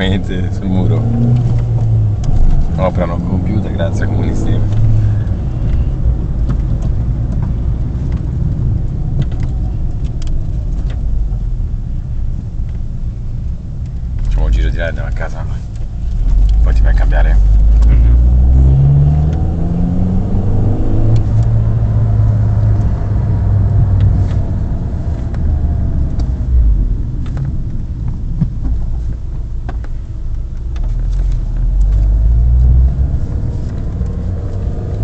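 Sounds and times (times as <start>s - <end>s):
car engine accelerating: 0.0s - 35.0s
low road rumble: 0.0s - 35.0s.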